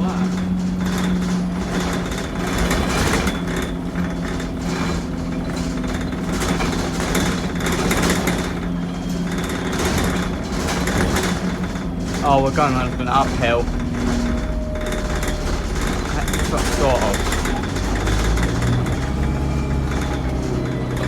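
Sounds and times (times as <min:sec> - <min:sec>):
bus engine droning: 0:00.0 - 0:21.0
rattling: 0:00.0 - 0:21.0.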